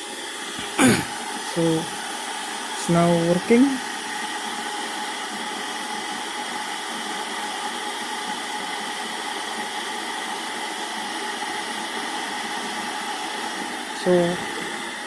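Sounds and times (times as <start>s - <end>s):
water heating in a boiler: 0.0s - 15.0s.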